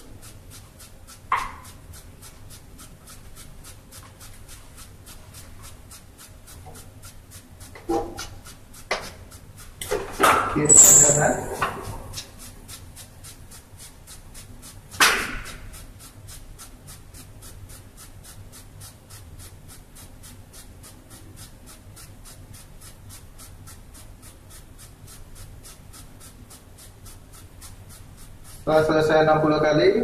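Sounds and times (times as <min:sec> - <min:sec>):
scrub brush scratching fingernails: 0:00.0 - 0:09.8, 0:10.6 - 0:29.4.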